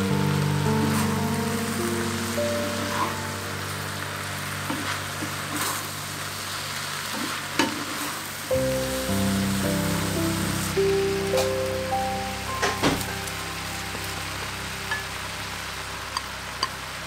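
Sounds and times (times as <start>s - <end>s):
food sizzling in a frying pan: 0.0s - 17.0s
soft background music: 0.0s - 17.0s.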